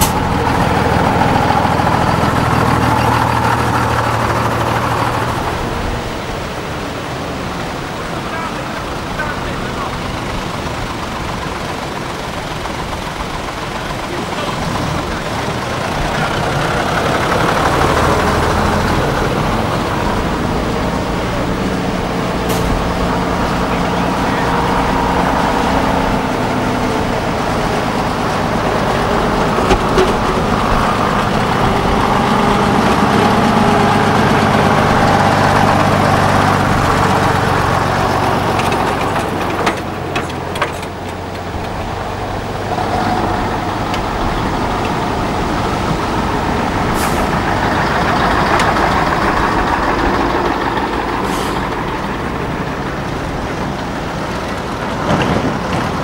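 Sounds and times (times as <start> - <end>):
lorry diesel engines: 0.0 - 56.0.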